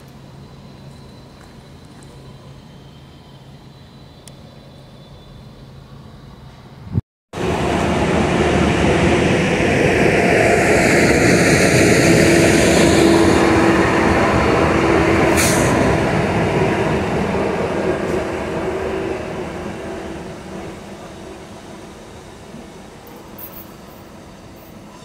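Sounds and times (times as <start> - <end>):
electric train passing: 0.0 - 25.0.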